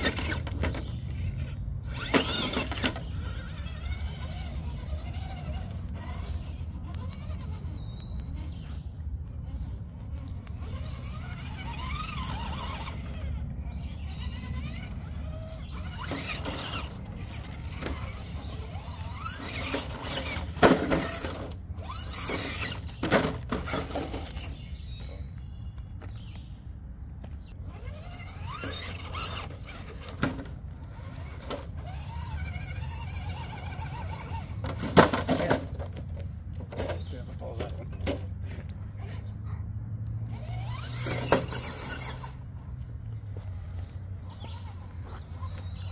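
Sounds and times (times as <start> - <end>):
electric motor and gears whining: 0.0 - 45.9.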